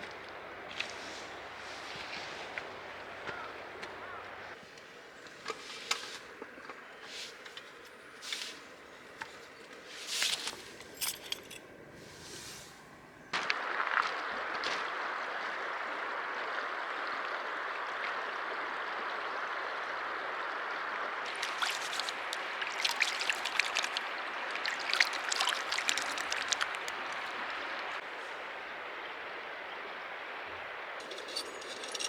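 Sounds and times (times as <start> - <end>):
stream water flowing: 0.0 - 11.8, 13.4 - 32.0.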